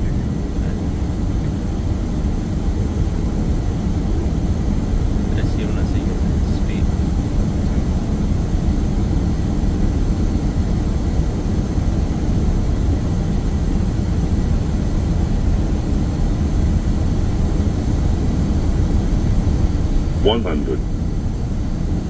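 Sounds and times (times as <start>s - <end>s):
cockpit low rumble: 0.0s - 22.0s.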